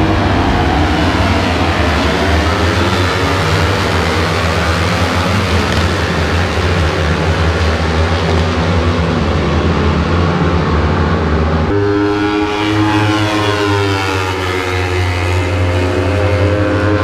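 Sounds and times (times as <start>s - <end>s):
motorcycle passing by: 0.0s - 9.1s, 12.3s - 17.0s
motorcycle engines rumbling: 0.0s - 17.0s.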